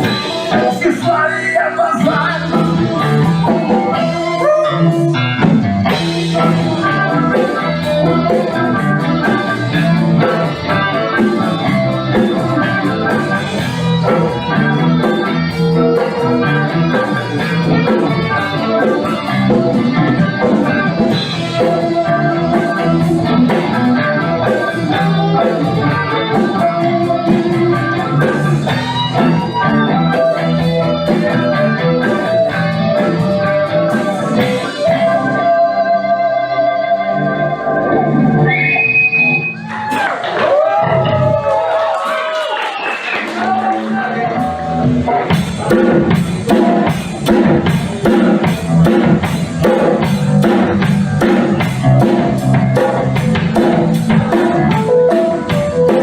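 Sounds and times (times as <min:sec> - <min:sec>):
drum kit: 0:00.0 - 0:37.0, 0:37.7 - 0:56.0
bass guitar: 0:00.0 - 0:56.0
electric guitar: 0:00.0 - 0:56.0.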